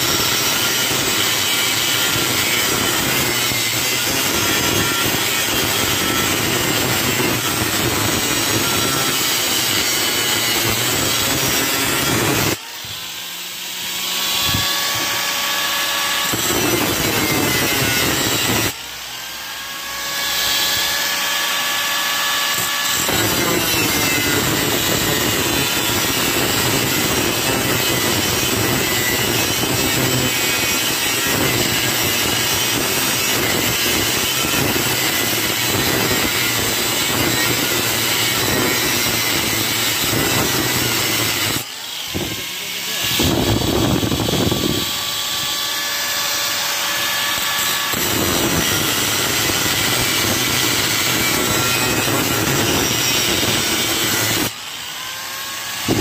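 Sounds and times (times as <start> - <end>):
angle grinder cutting metal: 0.0 - 56.0.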